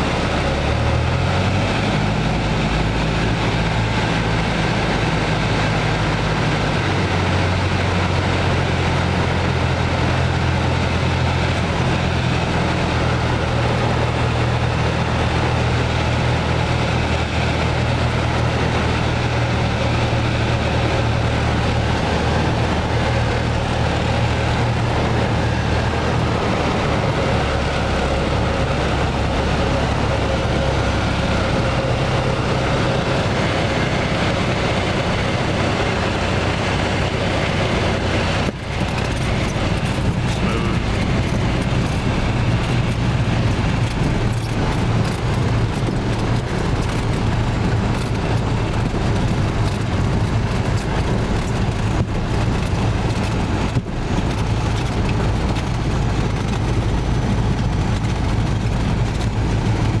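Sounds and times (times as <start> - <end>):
light aircraft engine droning: 0.0 - 60.0.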